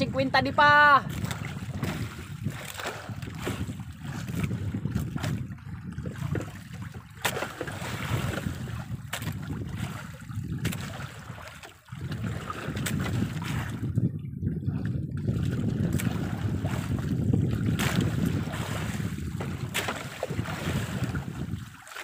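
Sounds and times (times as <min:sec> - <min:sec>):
wind buffeting microphone: 0:00.0 - 0:21.8
water washing against boat: 0:00.0 - 0:22.0.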